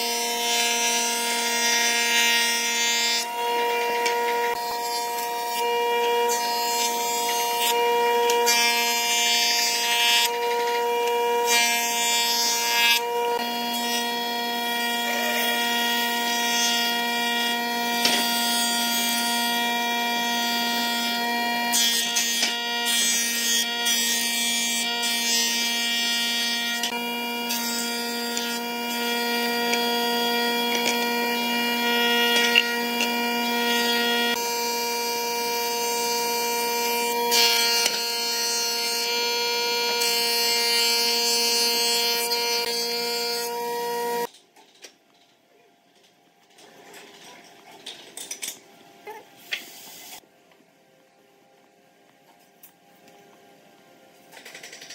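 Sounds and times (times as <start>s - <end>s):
cutter head shaving board: 0.0s - 44.3s.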